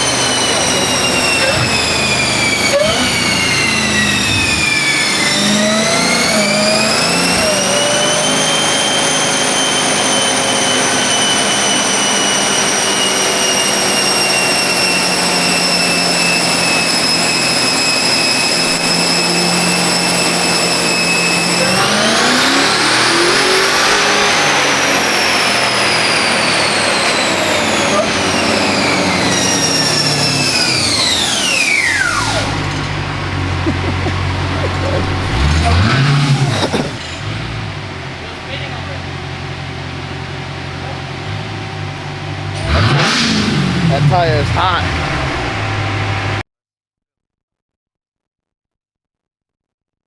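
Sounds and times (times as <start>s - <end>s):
car engine and exhaust accelerating: 0.0s - 46.4s
supercharger whine: 0.0s - 46.4s.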